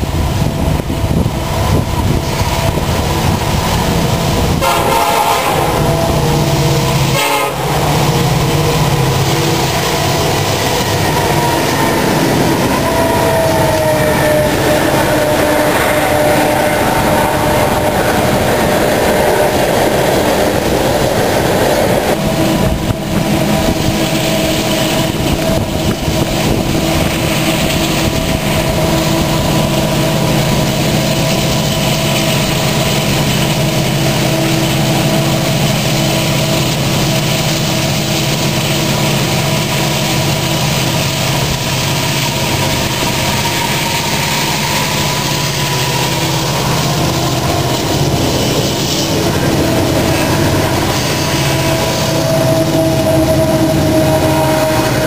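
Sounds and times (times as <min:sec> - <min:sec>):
diesel locomotives droning: 0:00.0 - 0:55.0
freight cars rolling past: 0:00.0 - 0:55.0.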